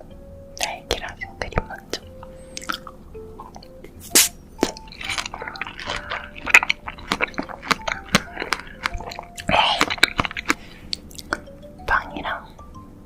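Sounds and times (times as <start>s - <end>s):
soft background music: 0.0s - 13.0s
close-miked chewing and mouth clicks: 0.6s - 12.4s.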